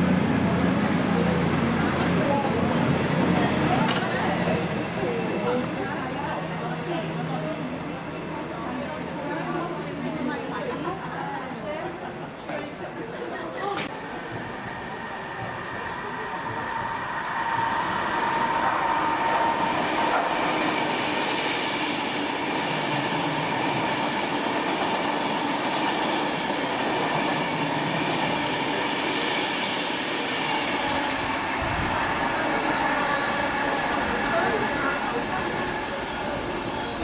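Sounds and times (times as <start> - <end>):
train wheels on rails: 0.0 - 10.1, 13.6 - 37.0.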